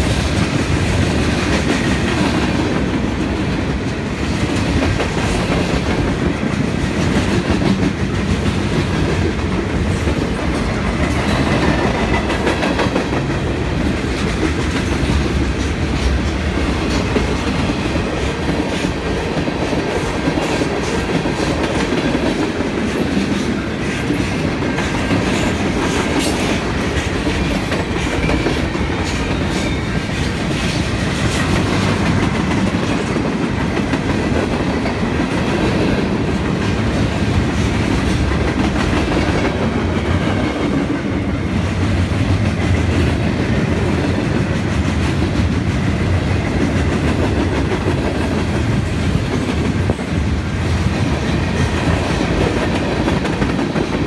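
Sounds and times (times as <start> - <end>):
clickety-clack over rail joints: 0.0 - 54.0
train wheels on rail: 0.0 - 54.0.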